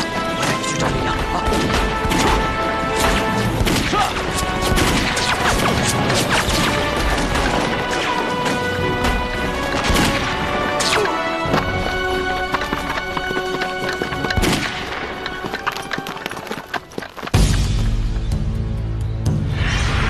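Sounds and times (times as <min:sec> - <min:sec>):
dramatic background music: 0:00.0 - 0:20.0.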